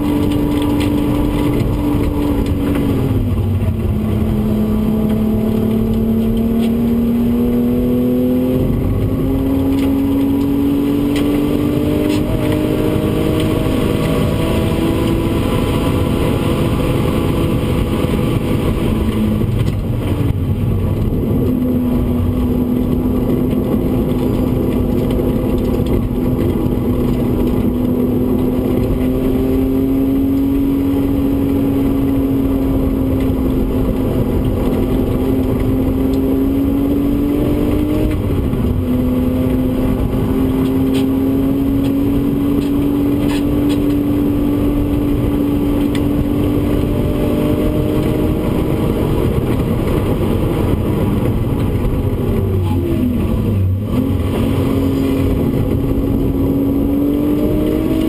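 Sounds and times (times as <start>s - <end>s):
car engine pulling hard: 0.0s - 58.0s
tyre and wind noise: 0.0s - 58.0s.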